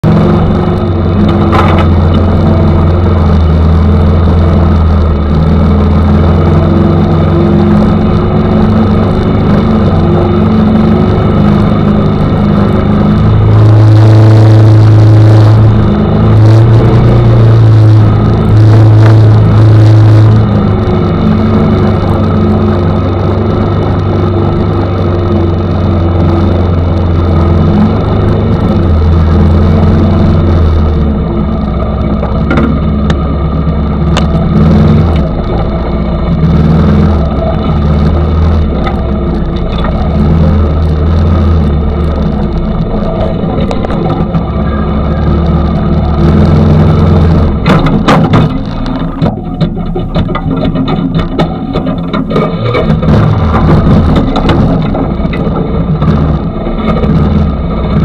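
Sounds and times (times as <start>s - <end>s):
atv engine running and revving: 0.0s - 58.0s.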